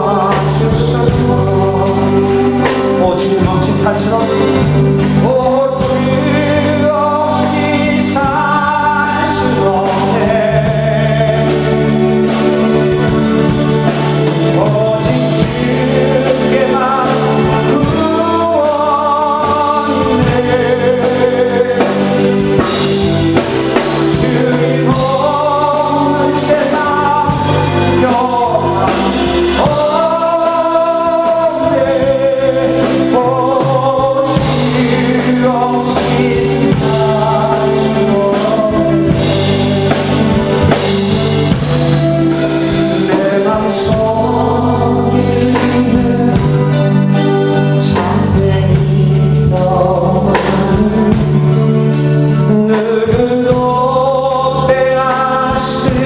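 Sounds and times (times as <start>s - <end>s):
electric guitar: 0.0s - 56.0s
low accompaniment: 0.0s - 56.0s
man and woman singing: 0.0s - 56.0s.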